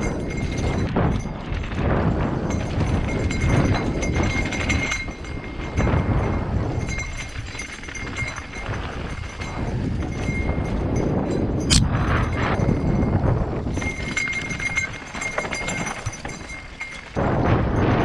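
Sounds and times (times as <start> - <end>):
bike rattling over bumps: 0.0 - 18.0.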